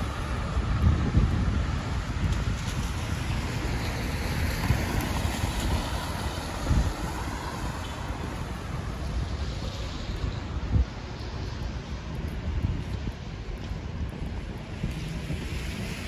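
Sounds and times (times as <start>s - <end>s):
traffic on wet streets: 0.0s - 16.0s
wind buffeting microphone: 0.0s - 16.0s.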